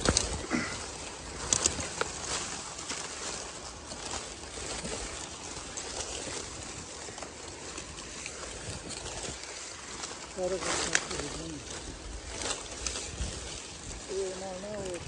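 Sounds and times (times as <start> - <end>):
faint crackles: 0.0 - 15.0
leaves and twigs rustling: 0.0 - 15.0.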